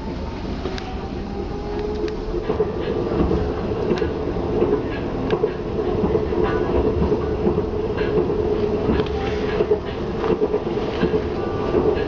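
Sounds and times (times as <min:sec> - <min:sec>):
train running rumble and hum: 0:00.0 - 0:12.0
wheels clicking on track: 0:01.7 - 0:12.0.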